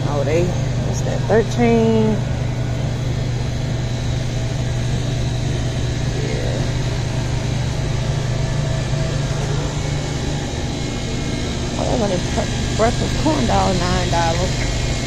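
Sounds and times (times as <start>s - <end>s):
refrigeration machine hum: 0.0s - 15.0s.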